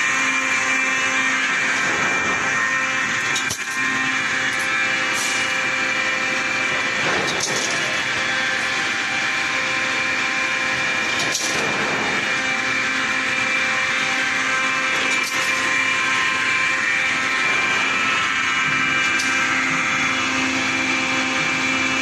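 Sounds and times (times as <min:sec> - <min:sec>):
machine humming with a whine: 0:00.0 - 0:22.0.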